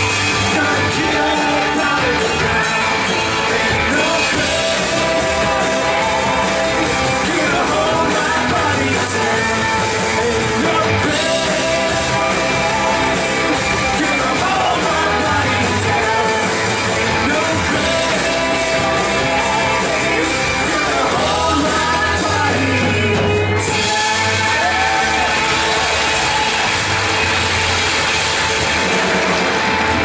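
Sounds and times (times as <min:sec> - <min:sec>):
voices singing along: 0:00.0 - 0:27.2
live band playing rock song: 0:00.0 - 0:30.0.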